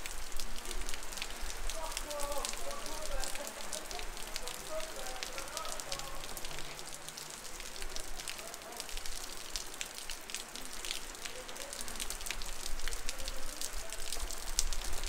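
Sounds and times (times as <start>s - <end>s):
heavy rain pouring on street: 0.0s - 15.0s.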